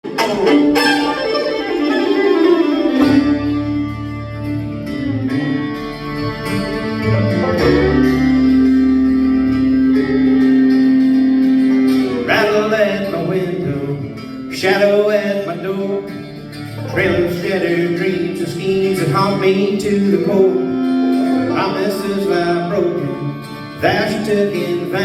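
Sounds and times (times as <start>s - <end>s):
bluegrass band playing: 0.0s - 25.0s.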